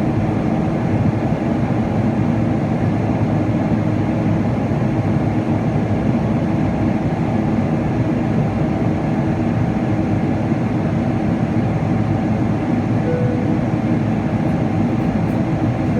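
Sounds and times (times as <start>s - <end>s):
airplane cabin roar: 0.0s - 15.9s.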